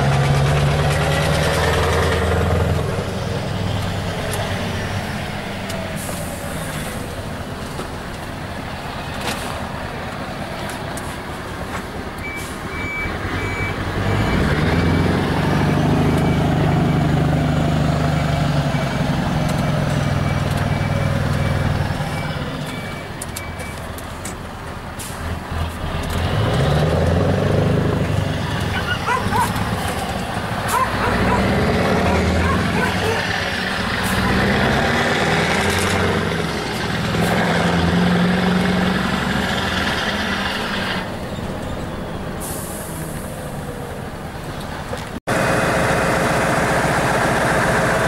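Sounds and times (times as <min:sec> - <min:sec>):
truck engine pulling under load: 0:00.0 - 0:48.0.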